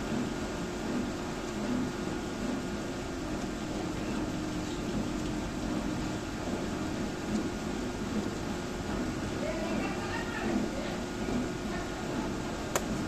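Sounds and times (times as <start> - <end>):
incubator fan humming: 0.0 - 13.0.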